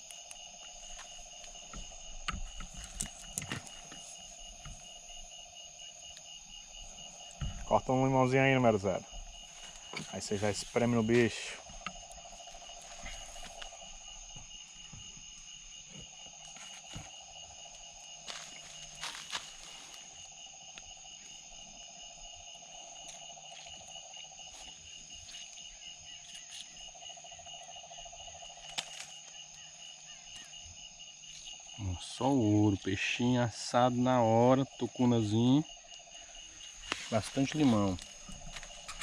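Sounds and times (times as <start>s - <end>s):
crickets and insects trilling: 0.0s - 39.0s
low pulsing insect trill: 0.0s - 39.0s.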